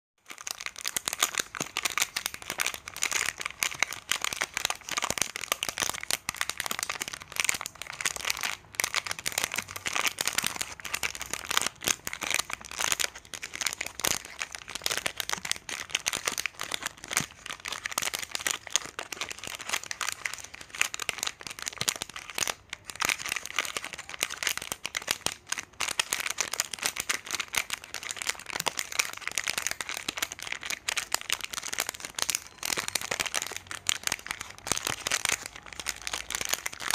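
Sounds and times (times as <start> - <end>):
plastic wrappers crinkling: 0.2 - 36.9.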